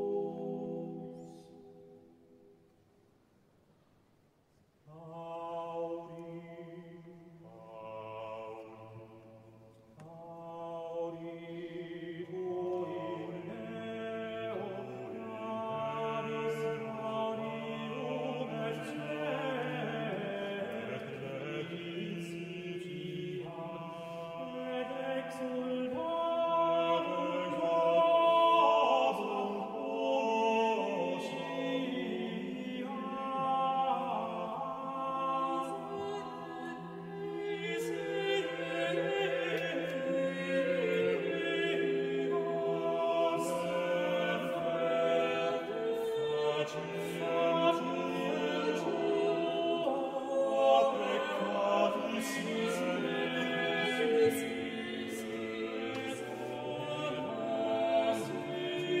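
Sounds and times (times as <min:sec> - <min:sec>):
choir singing sacred chant: 0:00.0 - 0:02.1, 0:04.9 - 0:59.0.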